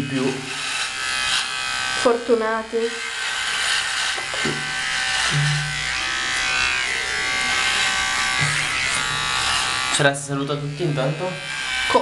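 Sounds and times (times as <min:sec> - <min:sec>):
electric shaver buzzing: 0:00.0 - 0:12.0.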